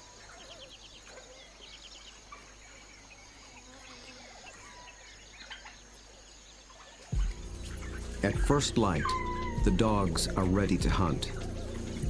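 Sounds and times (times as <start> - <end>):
birds chirping: 0.0 - 12.0
insects droning: 0.0 - 12.0.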